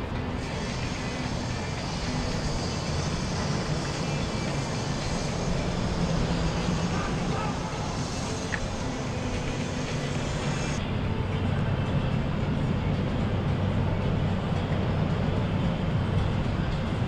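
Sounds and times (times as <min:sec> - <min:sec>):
boat engines droning: 0:00.0 - 0:17.0
rush of noise: 0:00.0 - 0:17.0.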